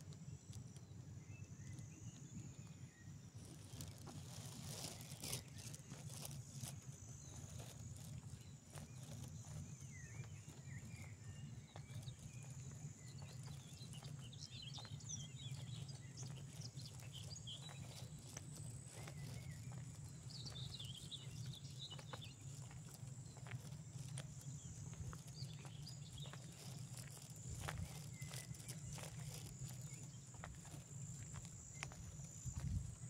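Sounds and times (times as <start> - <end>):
footsteps walking outdoors: 0.0 - 33.0
small birds chirping: 0.0 - 33.0.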